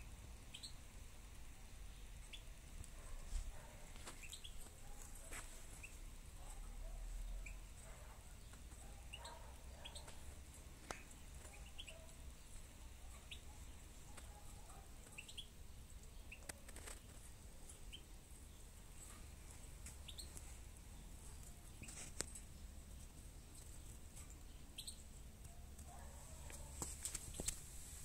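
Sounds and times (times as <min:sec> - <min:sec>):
small birds chirping: 0:00.0 - 0:27.8
low steady background noise: 0:00.0 - 0:28.0.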